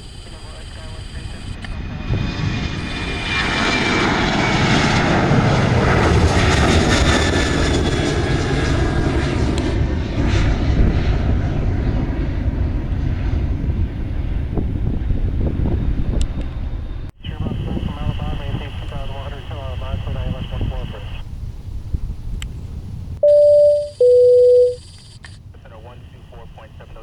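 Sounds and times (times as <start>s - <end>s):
airliner engines passing low: 0.0s - 27.0s.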